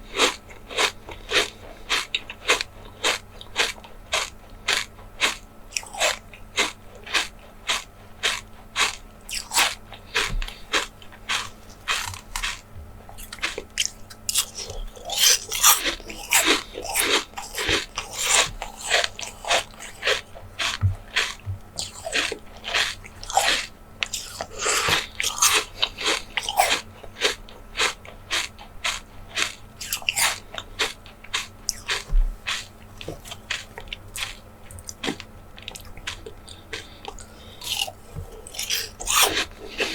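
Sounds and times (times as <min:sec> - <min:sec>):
crisp bites and chewing: 0:00.2 - 0:39.9.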